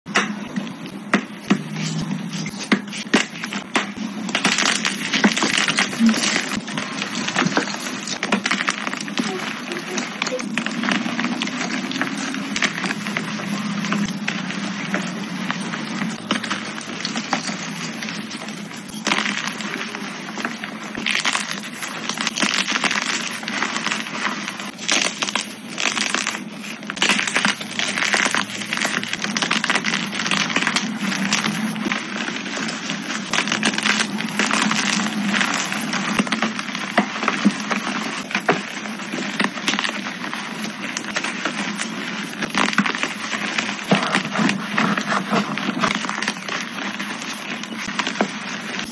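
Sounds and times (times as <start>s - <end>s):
chalk crunching and crackling: 0.4s - 48.9s.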